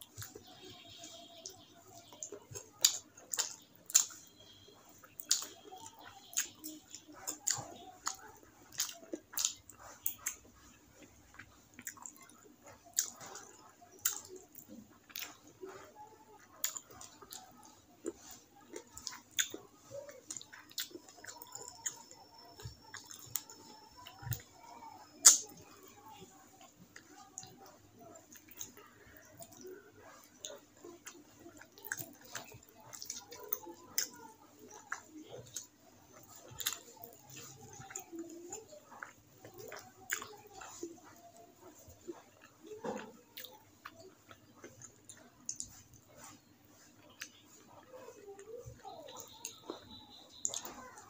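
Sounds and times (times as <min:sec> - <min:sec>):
chewing and lip smacks: 0:00.0 - 0:51.0.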